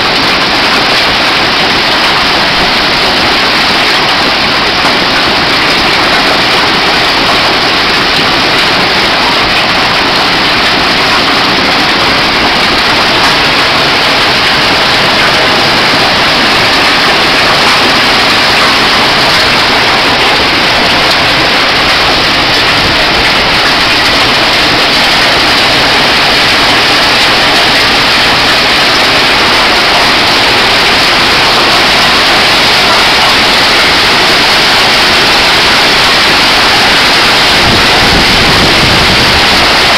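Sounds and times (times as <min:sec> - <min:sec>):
hail and heavy rain: 0:00.0 - 0:39.9.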